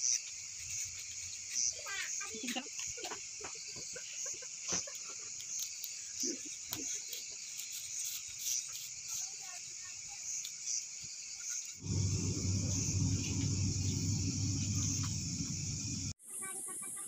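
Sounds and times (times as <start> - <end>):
crickets trilling: 0.0 - 16.1.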